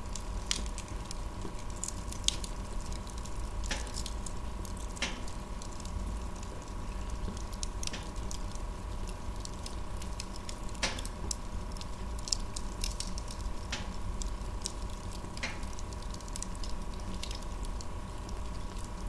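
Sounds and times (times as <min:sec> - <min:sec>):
wood fire crackling: 0:00.0 - 0:19.0
fire pops: 0:00.1 - 0:19.0.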